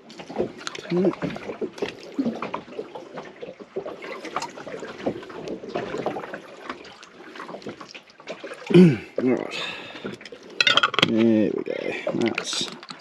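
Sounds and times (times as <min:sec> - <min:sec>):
water wash: 0:00.0 - 0:13.0.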